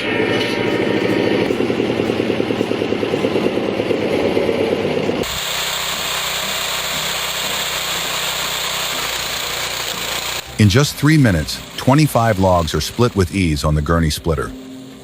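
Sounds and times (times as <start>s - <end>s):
engine pulsing: 0.0s - 15.0s
machine noise with hiss: 0.0s - 15.0s.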